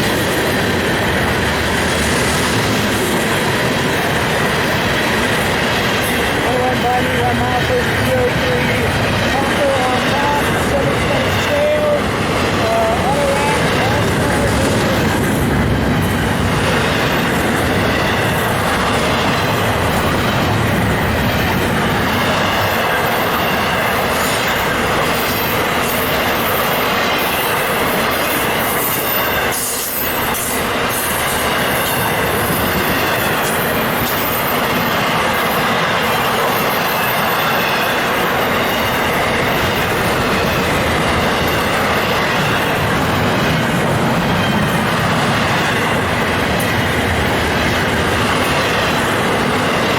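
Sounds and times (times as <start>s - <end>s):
train wheels on rail: 0.0s - 49.9s.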